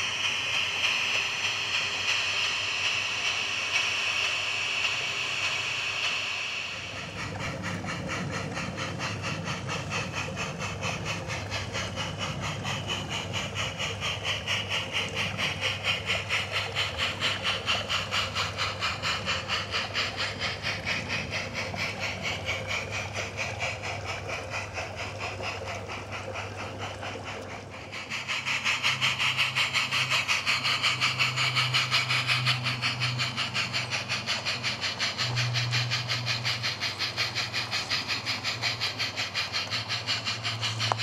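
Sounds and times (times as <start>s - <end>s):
model locomotive hiss: 0.0s - 41.0s
rhythmic train beat: 0.0s - 41.0s.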